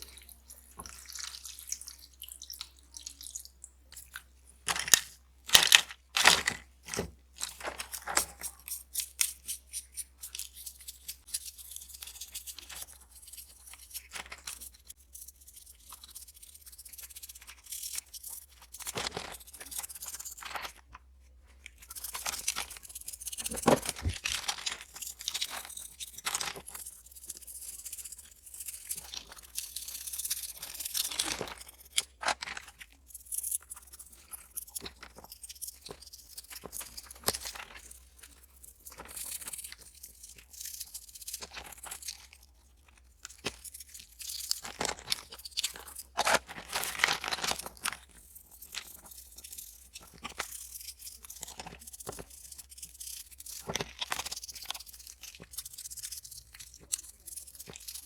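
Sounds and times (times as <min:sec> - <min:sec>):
scratchy rubbing and crinkling: 0:00.0 - 0:58.0.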